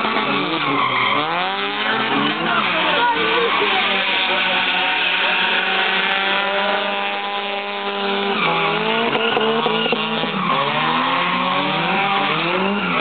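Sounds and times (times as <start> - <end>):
car engine revving: 0.0 - 13.0
tyres squealing: 0.0 - 13.0.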